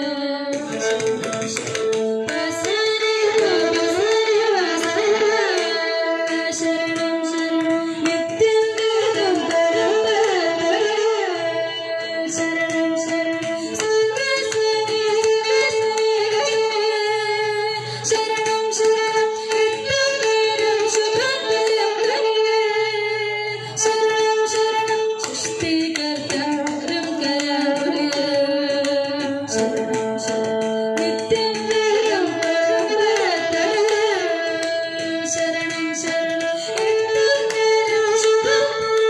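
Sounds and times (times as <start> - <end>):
violin: 0.0 - 39.0
girl singing: 2.2 - 29.9, 30.7 - 39.0.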